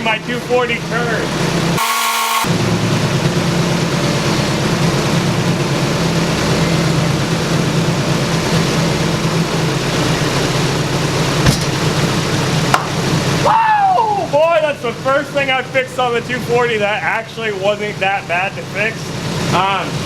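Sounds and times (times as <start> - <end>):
car engine idling: 0.1 - 20.0.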